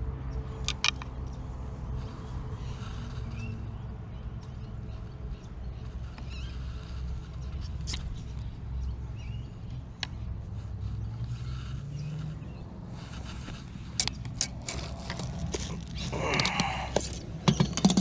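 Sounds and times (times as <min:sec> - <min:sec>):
steady low rumble: 0:00.0 - 0:17.6.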